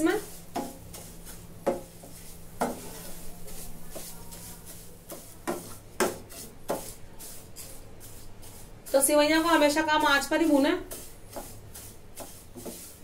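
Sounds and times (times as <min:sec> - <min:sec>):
spatula scraping a frying pan: 0:00.0 - 0:13.0.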